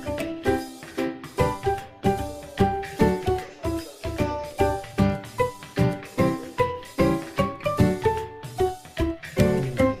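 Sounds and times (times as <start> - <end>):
background music of short notes: 0.0 - 10.0.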